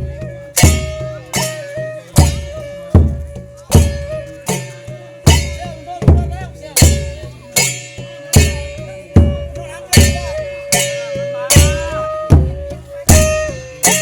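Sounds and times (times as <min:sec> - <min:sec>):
drum and crash cymbals beat: 0:00.0 - 0:14.0.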